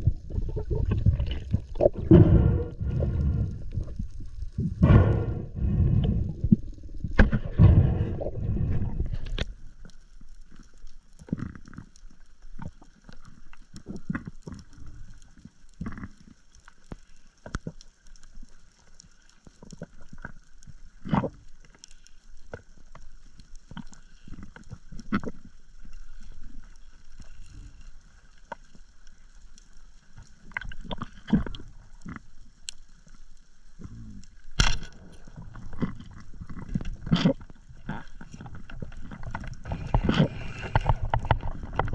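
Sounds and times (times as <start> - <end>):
muffled rush of water underwater: 0.0 - 41.9.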